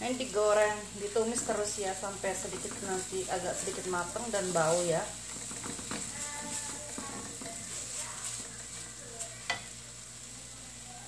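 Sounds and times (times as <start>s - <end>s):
paste sizzling in oil: 0.0s - 11.0s
spatula stirring and scraping: 0.1s - 10.3s.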